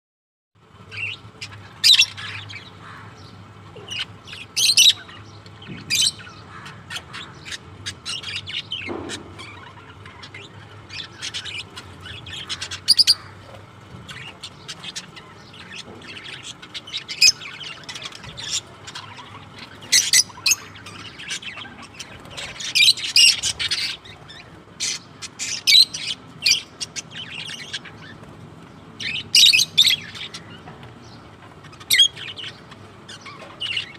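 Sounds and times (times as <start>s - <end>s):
parrots squawking and chirping: 0.9s - 33.9s.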